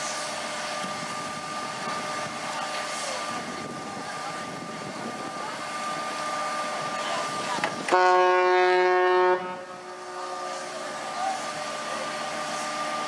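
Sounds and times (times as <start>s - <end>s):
ship engine and water noise: 0.0s - 13.0s.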